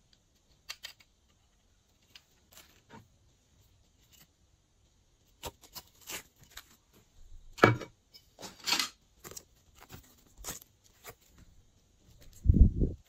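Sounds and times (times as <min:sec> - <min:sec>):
modelling clay clicking and rustling: 0:00.0 - 0:13.0.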